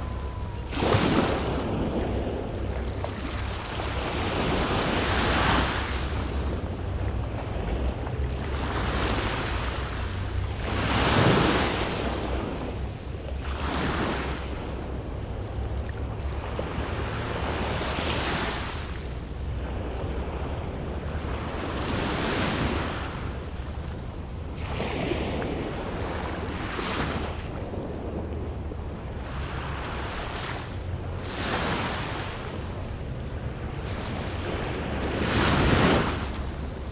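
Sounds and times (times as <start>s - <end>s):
small waves breaking on beach: 0.0s - 36.9s
wind rumble on microphone: 0.0s - 36.9s.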